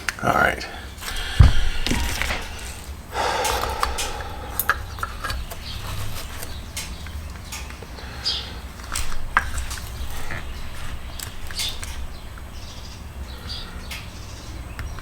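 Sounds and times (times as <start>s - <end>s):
small parts clicking and tapping: 1.0s - 15.0s.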